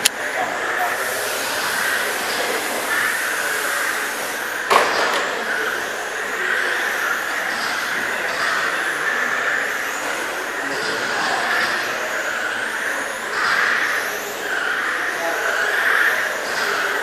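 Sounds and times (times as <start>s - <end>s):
rc car motors whining: 0.0s - 17.0s.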